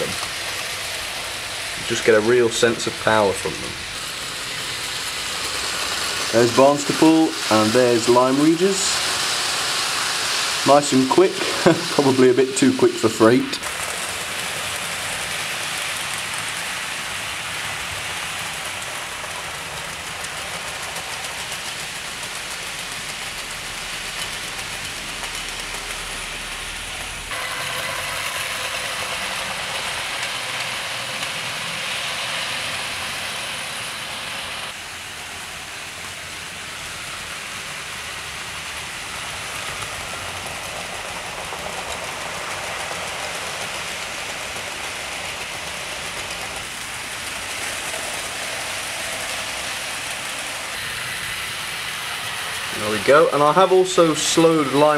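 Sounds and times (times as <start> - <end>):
model train motors whirring: 0.0 - 54.9.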